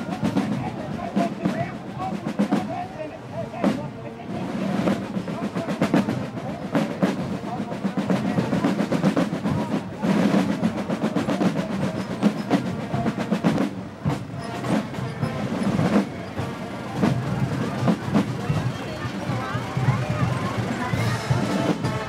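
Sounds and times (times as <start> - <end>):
parade side drums playing march: 0.0 - 22.0.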